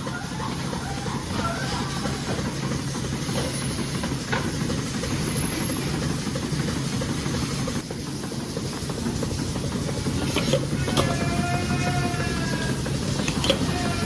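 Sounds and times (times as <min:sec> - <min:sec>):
milking machinery humming: 0:00.0 - 0:14.0.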